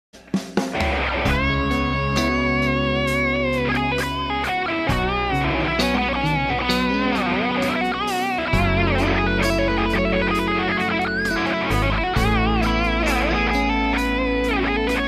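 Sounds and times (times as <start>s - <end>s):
drums: 0.1s - 15.0s
electric guitar lead lines: 0.2s - 15.0s
sustained bass notes: 0.9s - 15.0s.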